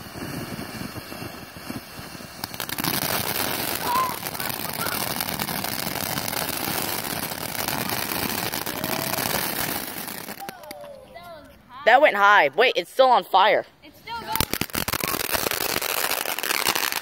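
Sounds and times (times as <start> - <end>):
firework hissing and crackling: 0.0 - 10.8, 14.1 - 17.0.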